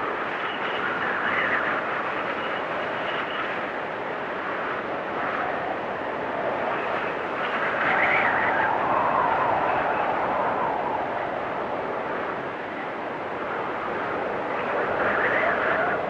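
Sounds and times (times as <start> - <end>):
wind gusts whistling and whooshing: 0.0 - 16.0.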